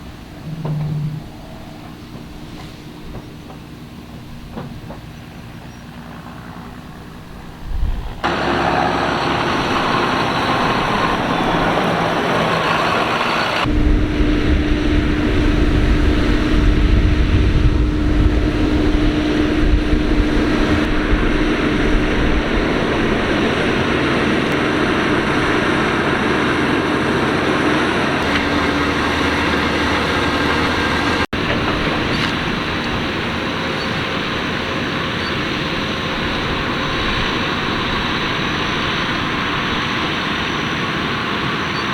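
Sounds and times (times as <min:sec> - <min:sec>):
machinery whining hum: 0:00.0 - 0:41.9
tractor engine rumble: 0:00.0 - 0:41.9.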